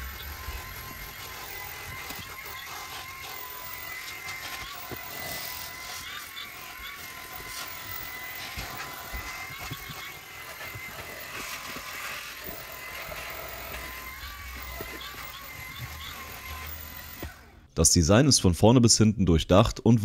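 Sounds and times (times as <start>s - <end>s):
vacuum suction on carpet: 0.0s - 17.4s
vacuum cleaner motor whine: 0.0s - 17.7s.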